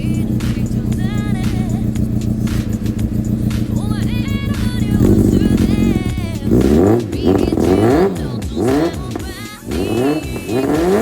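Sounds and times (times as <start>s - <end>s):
motorcycle exhaust revving: 0.0s - 11.0s.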